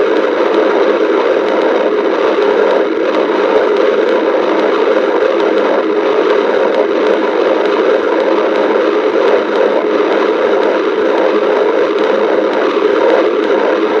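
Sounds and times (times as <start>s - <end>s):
stomach growling: 0.0s - 14.0s.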